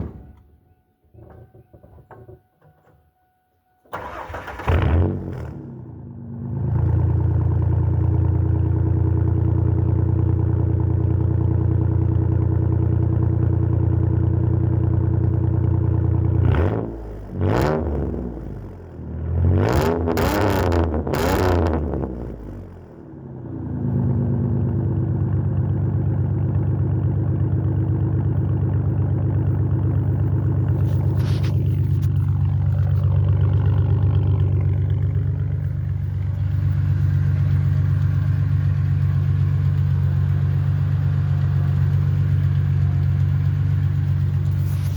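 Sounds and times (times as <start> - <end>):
deep engine idle drone: 4.6 - 44.9.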